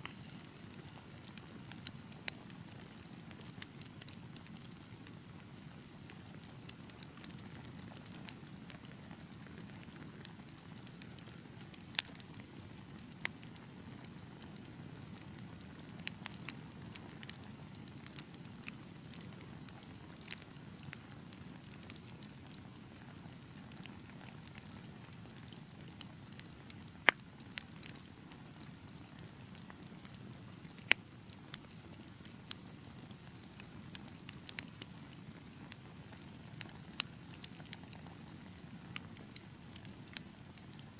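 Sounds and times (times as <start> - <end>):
fire crackling in fireplace: 0.0 - 40.9.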